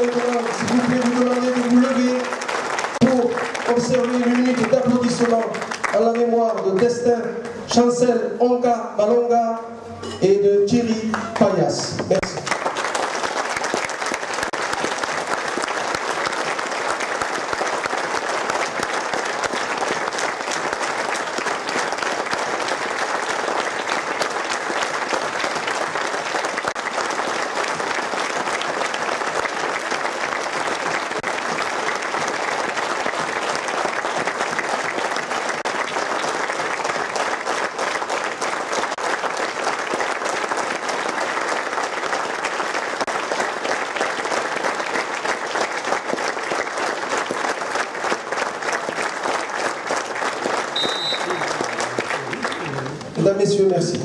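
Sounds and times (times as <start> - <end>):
crowd applauding: 0.0 - 7.6, 12.2 - 54.0.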